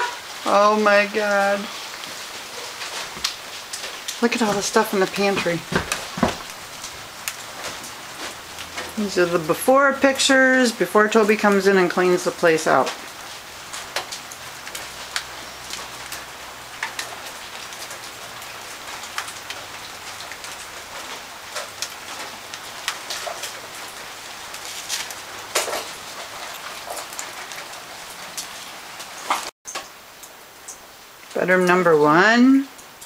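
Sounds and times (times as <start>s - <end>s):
sharp ticks of raindrops: 0.0s - 33.0s
steady rain falling: 0.0s - 33.0s.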